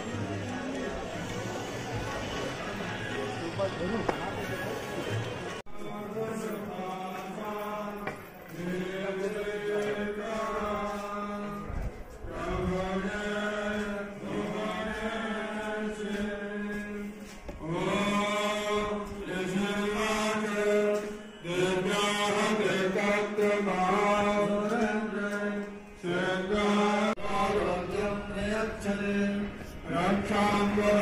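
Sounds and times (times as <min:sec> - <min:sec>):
person chanting a mantra: 0:05.7 - 0:31.0.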